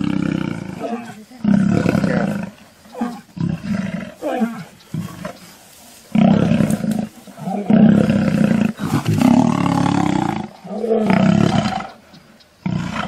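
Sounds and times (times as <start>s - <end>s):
lions roaring and snarling: 0.0s - 12.0s, 12.6s - 13.0s.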